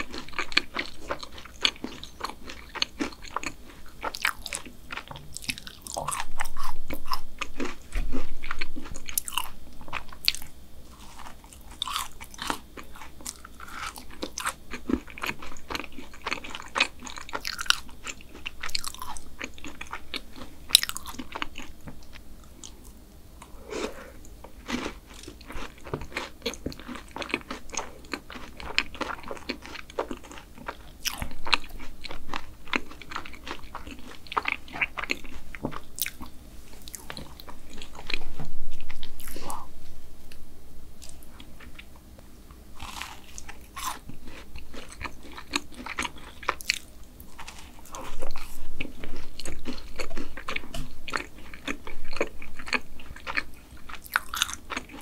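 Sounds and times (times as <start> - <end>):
biting and chewing: 0.0 - 22.9, 24.4 - 39.6, 42.8 - 55.0.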